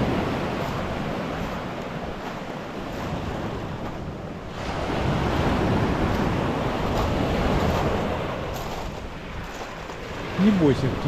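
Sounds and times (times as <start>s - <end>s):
surf washing on pebble beach: 0.0s - 11.0s
wind on microphone: 0.0s - 11.0s.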